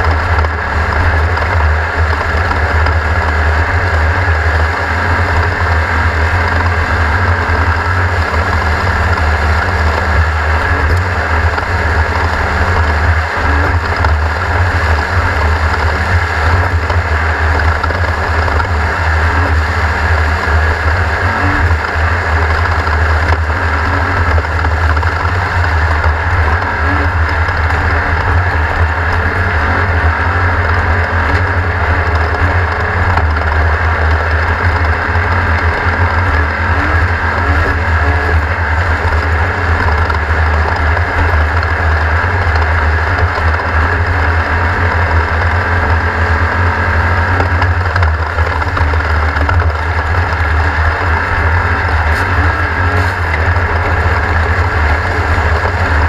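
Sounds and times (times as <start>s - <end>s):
race car engine drone: 0.0s - 56.0s.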